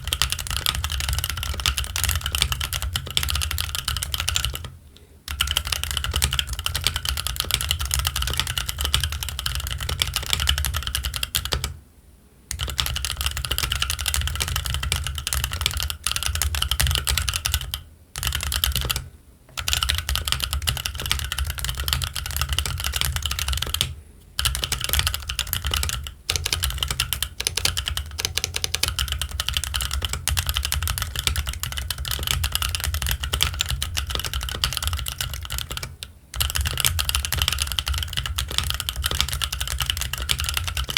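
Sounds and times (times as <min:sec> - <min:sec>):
mechanical keyboard typing: 0:00.0 - 0:11.8, 0:12.5 - 0:40.9.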